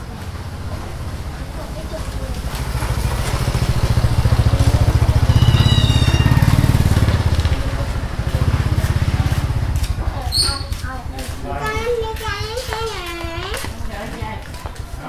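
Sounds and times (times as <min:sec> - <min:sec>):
motorcycle passing by: 0:00.0 - 0:15.0.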